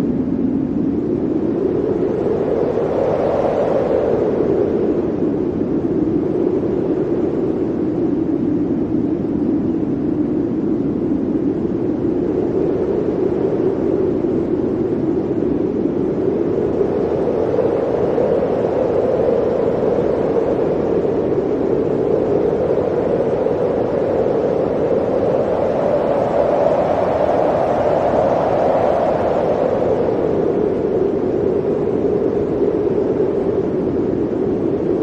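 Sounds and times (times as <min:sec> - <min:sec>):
blizzard wind howling: 0:00.0 - 0:35.0.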